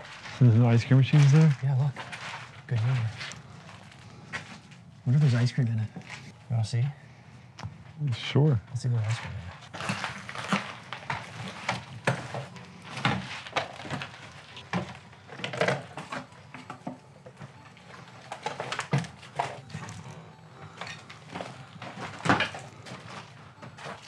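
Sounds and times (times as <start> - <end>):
footsteps crunching on rubble: 0.0 - 6.4, 8.8 - 16.0, 17.4 - 24.0
low steady hum: 0.0 - 24.0.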